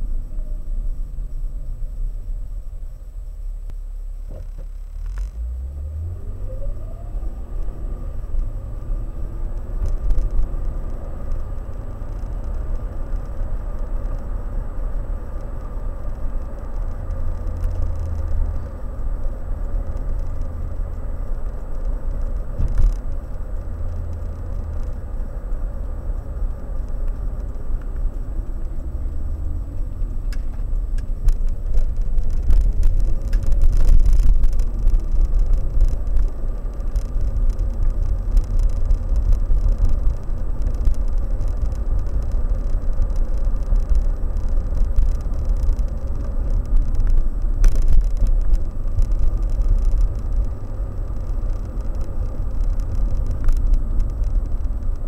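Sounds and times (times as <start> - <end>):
car engine and road rumble: 0.0 - 55.0
light knocks from road bumps: 8.6 - 55.0.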